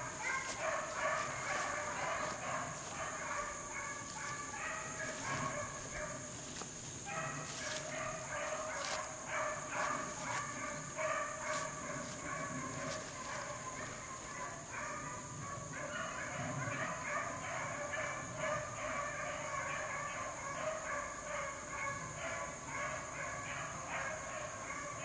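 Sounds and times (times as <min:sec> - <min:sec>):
dogs baying in chorus: 0:00.0 - 0:25.0.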